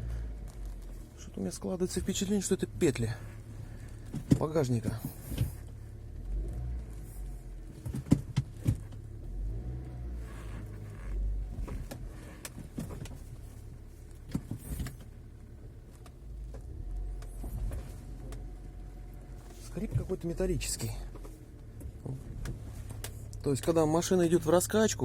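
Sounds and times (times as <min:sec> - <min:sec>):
low car running rumble: 0:00.0 - 0:25.0.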